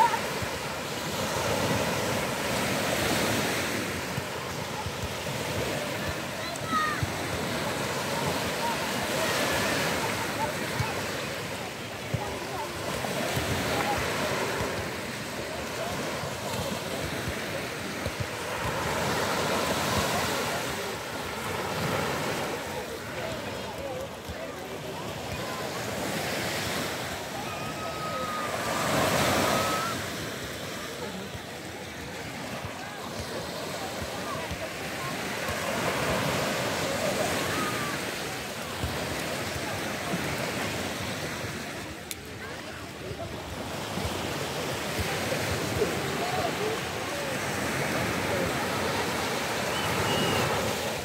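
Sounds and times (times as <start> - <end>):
faint distant voices: 0.0 - 51.0
surf washing onto beach: 0.0 - 51.0.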